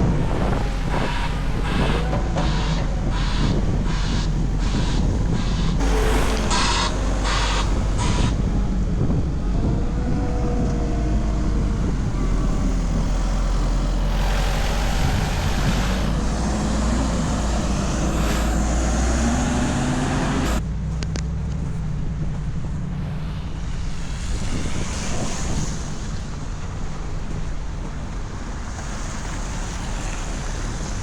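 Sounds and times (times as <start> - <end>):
street traffic passing: 0.0 - 31.0.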